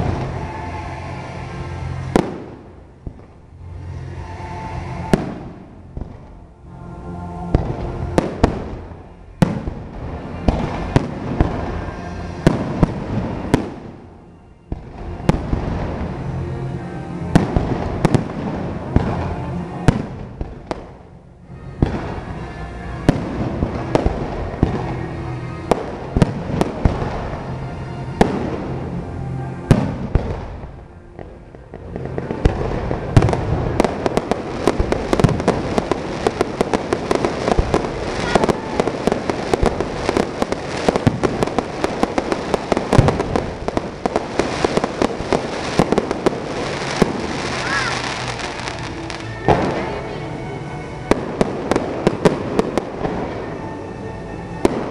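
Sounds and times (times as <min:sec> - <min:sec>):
fireworks bursting with sharp bangs: 0:00.0 - 0:06.5, 0:07.4 - 0:50.2, 0:51.0 - 0:53.7, 0:54.6 - 0:54.9.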